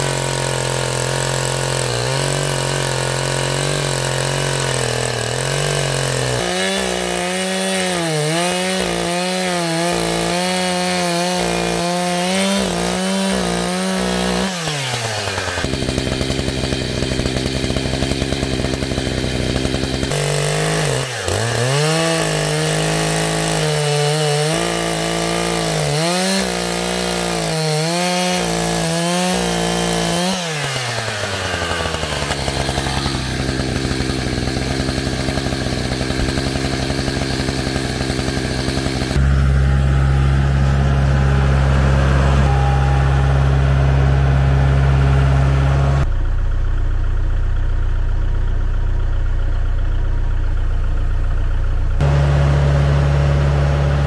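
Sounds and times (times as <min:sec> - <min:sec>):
chainsaw cutting log: 0:00.0 - 0:46.1, 0:52.0 - 0:54.0.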